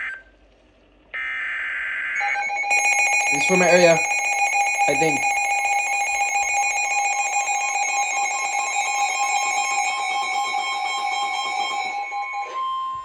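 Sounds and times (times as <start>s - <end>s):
two-tone emergency alert tone: 2.2s - 13.0s.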